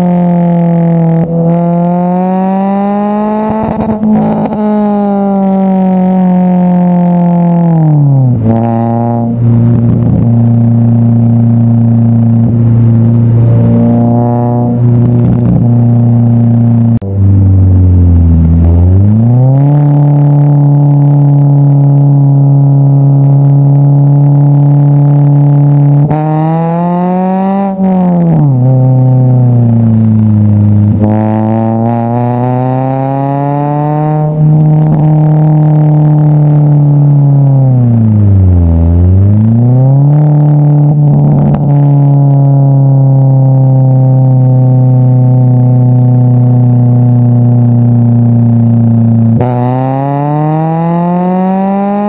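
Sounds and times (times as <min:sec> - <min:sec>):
car engine with raspy exhaust: 0:00.0 - 0:52.0.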